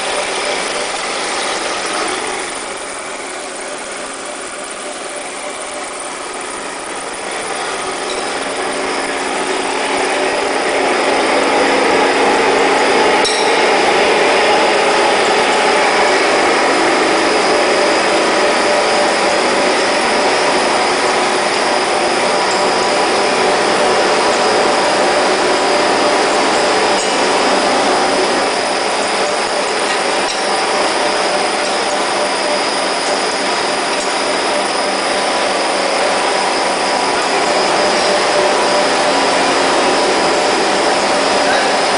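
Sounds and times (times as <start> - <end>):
constant humming tones: 0.0 - 41.9
industrial machinery running: 0.0 - 41.9.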